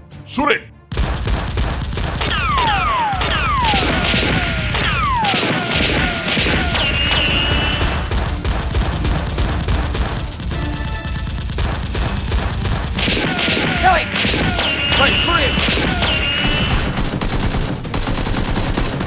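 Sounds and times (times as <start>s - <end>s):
action background music: 0.0s - 19.0s
rapid gunfire: 0.9s - 19.0s.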